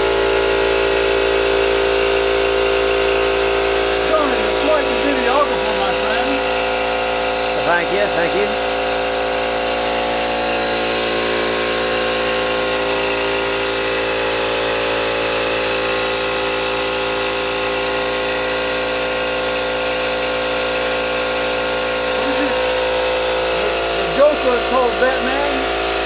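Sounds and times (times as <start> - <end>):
steam engine whirring: 0.0 - 26.0.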